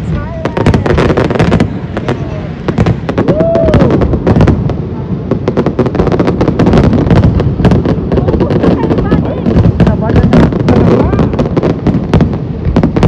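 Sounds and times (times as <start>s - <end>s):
continuous rumble: 0.0s - 13.0s
fireworks bursting and crackling: 0.0s - 13.0s.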